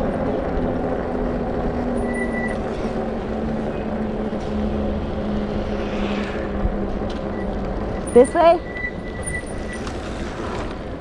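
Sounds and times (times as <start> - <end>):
bicycle rolling on paved path: 0.0 - 11.0.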